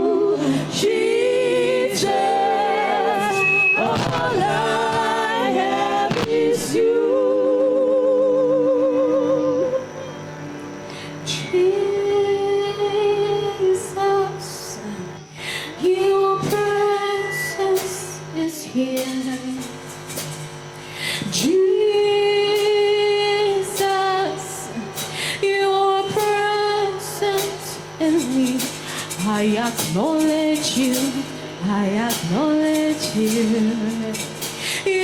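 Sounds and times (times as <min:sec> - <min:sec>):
woman singing with vibrato: 0:00.0 - 0:10.2, 0:11.2 - 0:19.8, 0:21.2 - 0:35.0.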